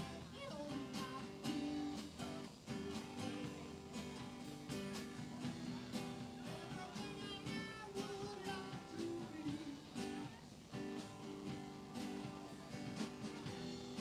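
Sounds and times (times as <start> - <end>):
guitar: 0.0 - 14.0
live band playing: 0.0 - 14.0.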